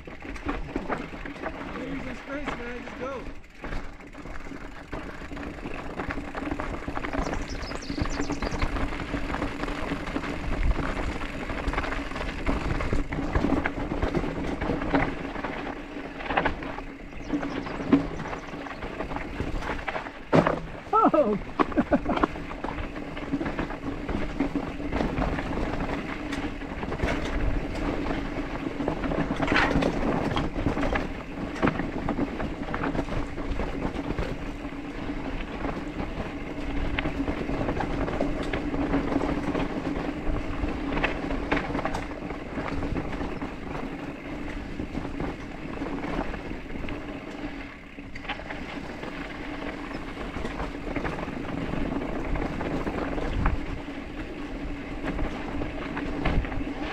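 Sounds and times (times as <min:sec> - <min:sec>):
bike rattling and knocking: 0:00.0 - 0:56.9
bike tyres rumbling on dirt: 0:00.0 - 0:56.9.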